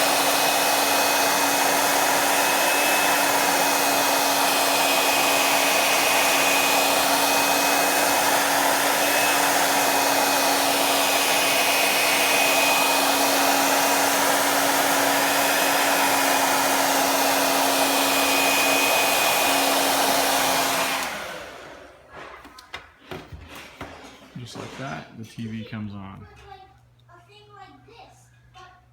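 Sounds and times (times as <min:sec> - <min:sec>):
hair dryer running: 0:00.0 - 0:23.2.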